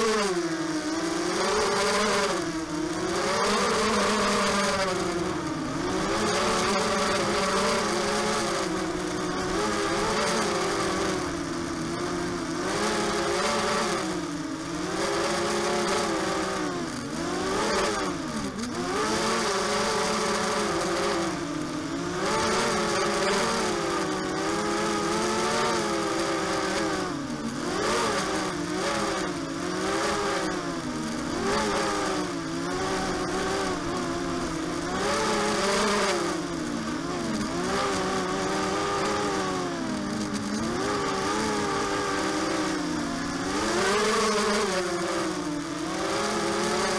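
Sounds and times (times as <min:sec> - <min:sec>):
quadcopter motors buzzing: 0:00.0 - 0:46.9.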